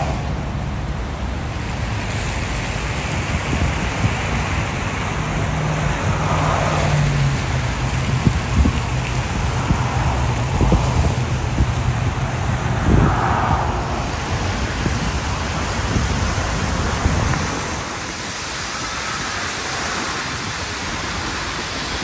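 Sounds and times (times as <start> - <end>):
highway traffic rumble: 0.0 - 22.0
rain hiss: 0.0 - 22.0.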